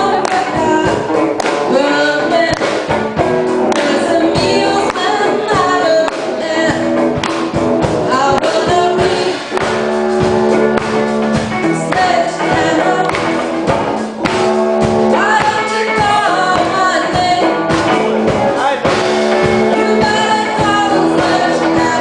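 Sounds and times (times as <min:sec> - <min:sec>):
person singing: 0:00.0 - 0:02.9, 0:03.5 - 0:07.2, 0:07.8 - 0:09.9, 0:11.3 - 0:13.7, 0:15.0 - 0:22.0
drum beat: 0:00.0 - 0:22.0
electric guitars: 0:00.0 - 0:22.0.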